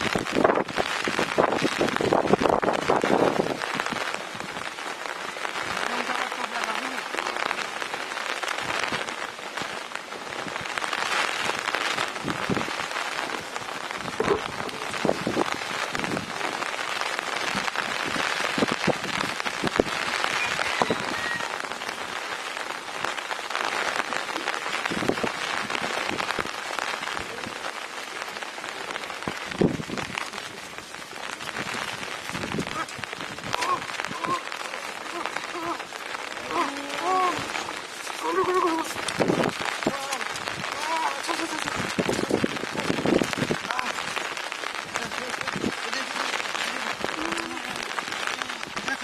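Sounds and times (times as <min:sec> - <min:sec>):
louder raindrop hits: 0:00.0 - 0:49.0
steady rain falling: 0:00.0 - 0:49.0.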